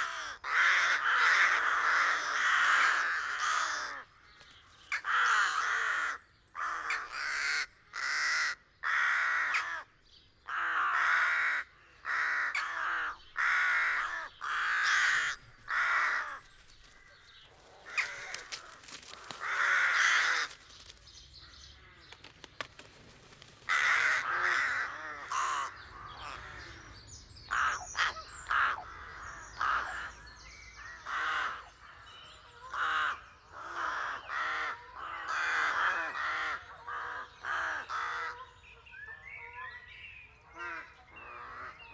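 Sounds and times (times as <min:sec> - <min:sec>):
rooks cawing: 0:00.0 - 0:04.2, 0:04.9 - 0:09.9, 0:10.5 - 0:16.5, 0:17.8 - 0:20.7, 0:23.7 - 0:39.8, 0:40.4 - 0:41.9.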